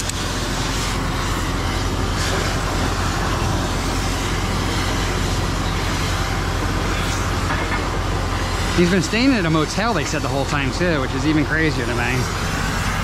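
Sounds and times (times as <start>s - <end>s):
continuous rushing noise: 0.0s - 13.0s
vehicle engine humming: 0.0s - 13.0s.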